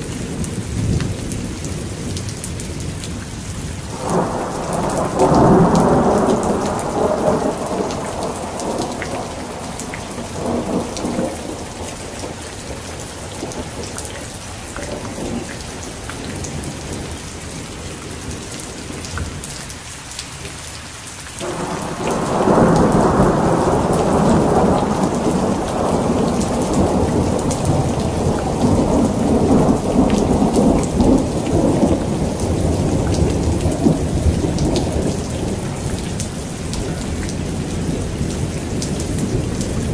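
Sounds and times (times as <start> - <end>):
heavy rain falling: 0.0 - 39.9
thunder rumbling: 3.9 - 17.7, 21.4 - 39.9.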